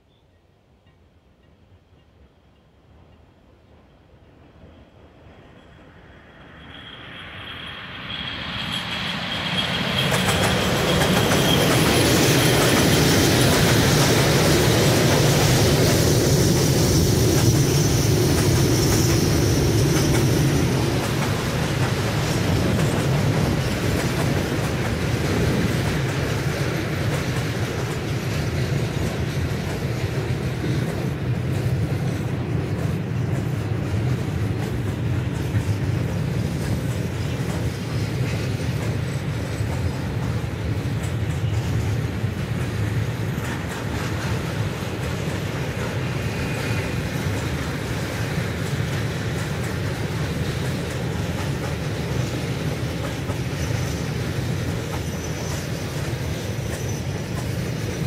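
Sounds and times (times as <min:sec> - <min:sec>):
electric locomotive whine: 0:02.9 - 0:58.0.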